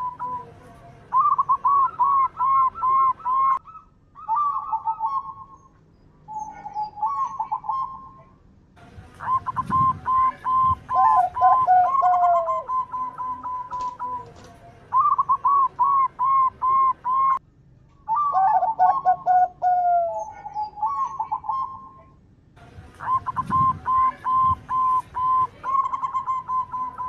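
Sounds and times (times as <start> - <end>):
doves cooing: 0.0 - 5.6, 6.3 - 8.3, 9.1 - 17.4, 18.1 - 22.2, 23.0 - 27.0.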